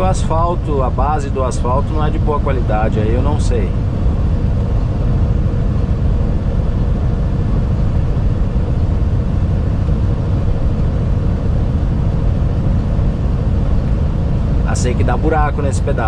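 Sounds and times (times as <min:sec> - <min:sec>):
faint steady hum: 0:00.0 - 0:16.0
truck engine and road rumble: 0:00.0 - 0:16.0.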